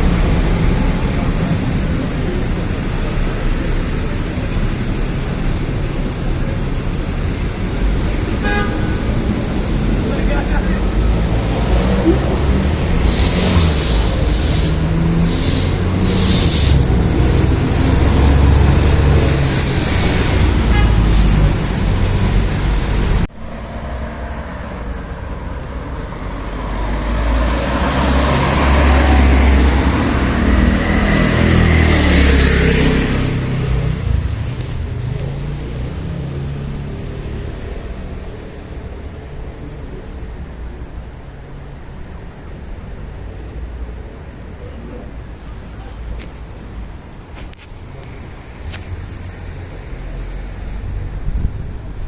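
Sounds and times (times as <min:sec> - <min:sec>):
vehicles passing: 0:00.0 - 0:52.0.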